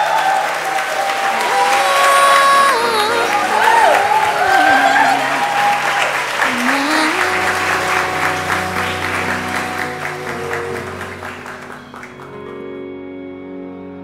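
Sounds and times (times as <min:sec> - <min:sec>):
crowd applauding: 0:00.0 - 0:12.8
soft instrumental music: 0:01.9 - 0:14.0.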